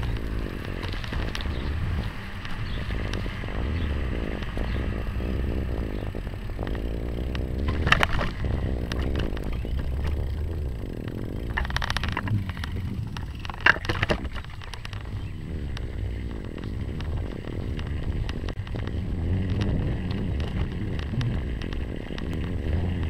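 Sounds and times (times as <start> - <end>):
bicycle rattling: 0.0 - 23.0
wind and road rumble: 0.0 - 23.0.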